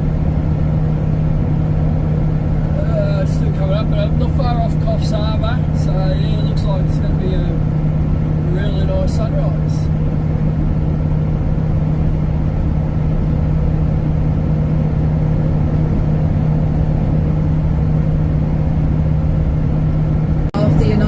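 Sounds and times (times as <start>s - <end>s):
truck engine and road noise drone: 0.0s - 21.0s.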